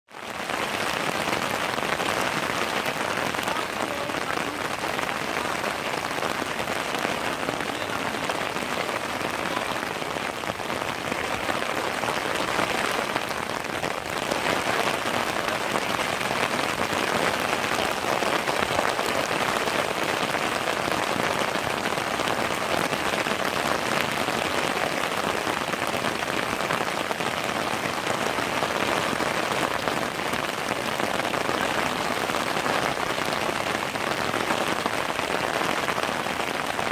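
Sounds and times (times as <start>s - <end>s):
heavy rain pouring: 0.1s - 36.9s.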